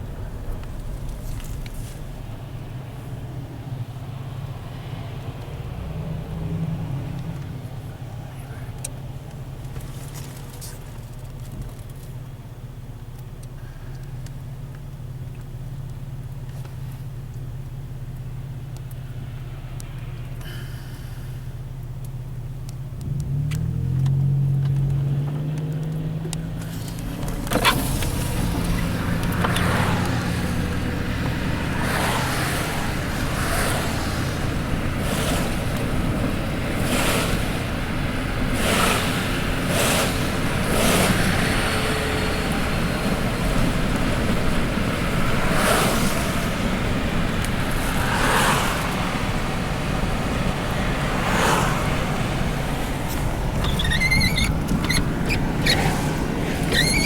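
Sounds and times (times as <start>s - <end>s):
vehicle engine running: 0.0s - 57.0s
wind and slushy road noise: 0.0s - 57.0s.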